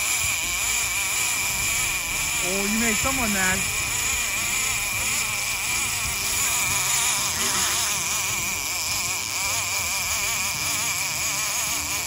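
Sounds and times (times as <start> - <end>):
fishing reel clicker buzzing: 0.0 - 12.0.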